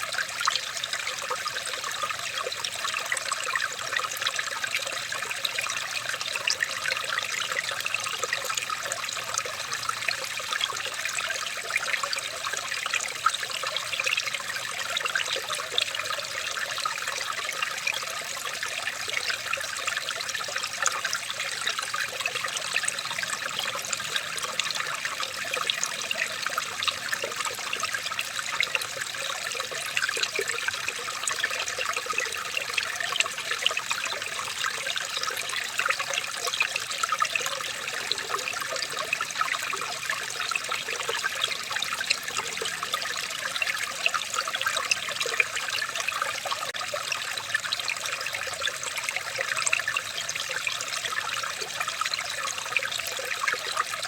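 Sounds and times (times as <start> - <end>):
stream trickling and babbling: 0.0 - 54.0.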